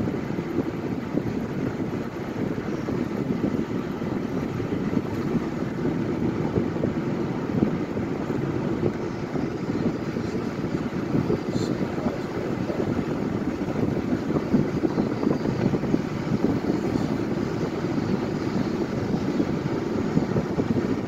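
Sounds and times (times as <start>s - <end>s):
car engine: 0.0s - 21.0s
wind noise: 0.0s - 21.0s.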